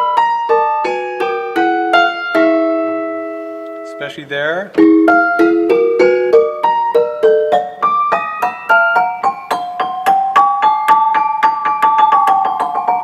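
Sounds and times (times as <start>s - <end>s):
prepared piano notes: 0.0s - 13.0s.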